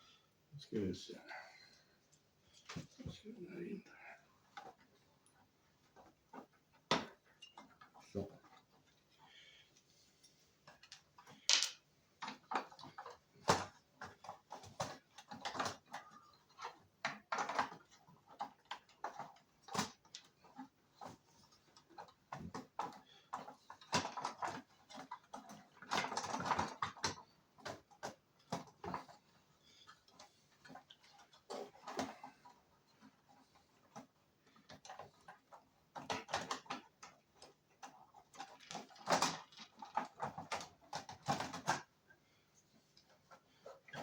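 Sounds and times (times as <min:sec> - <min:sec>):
rustling and scraping: 0:00.0 - 0:44.0
small parts clicking and tapping: 0:04.5 - 0:41.9.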